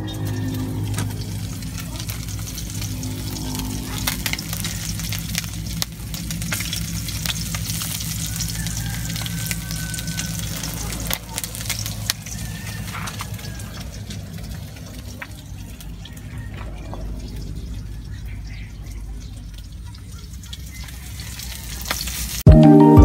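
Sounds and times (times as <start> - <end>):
fish sizzling in a wok: 0.0 - 16.4, 17.0 - 22.5
firewood crackling: 0.0 - 22.5.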